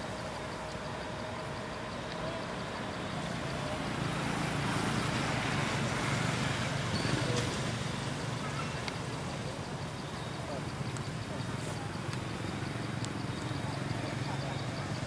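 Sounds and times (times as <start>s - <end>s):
vehicle passing on a road: 0.0s - 15.0s.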